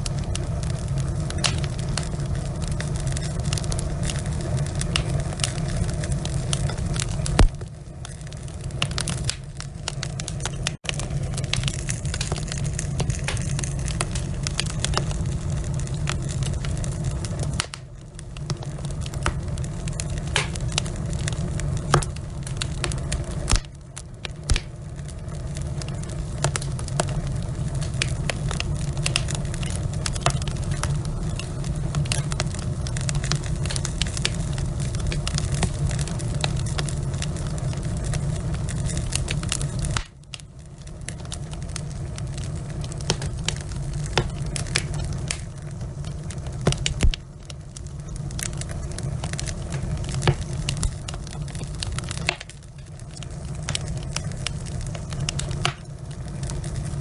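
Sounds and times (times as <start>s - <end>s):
logs crackling and popping: 0.0s - 57.0s
low rumble of flame: 0.0s - 57.0s.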